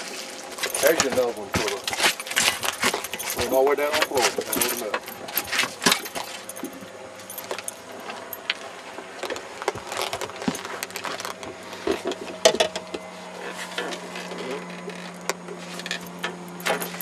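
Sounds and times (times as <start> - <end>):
low steady hum: 0.0 - 17.0
landing net and rig clinking: 0.5 - 17.0.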